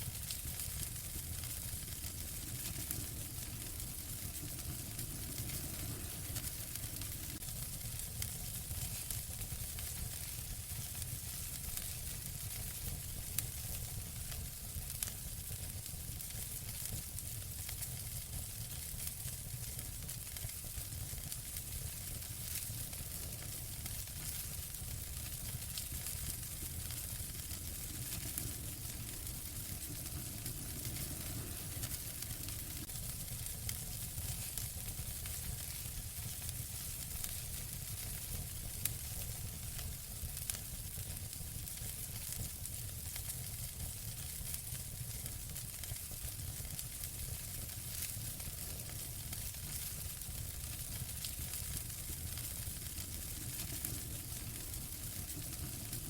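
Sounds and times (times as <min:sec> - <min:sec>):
fire crackling and popping: 0:00.0 - 0:56.0
fire hissing: 0:00.0 - 0:56.0.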